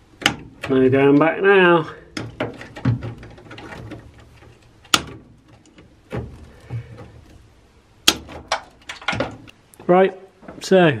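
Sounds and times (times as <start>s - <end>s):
wires and connectors rustling: 0.2s - 10.8s.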